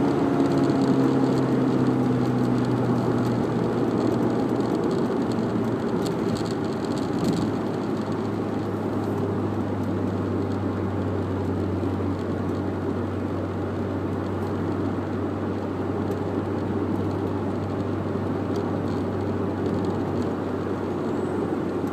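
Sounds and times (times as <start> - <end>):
car engine running steadily: 0.0 - 21.9.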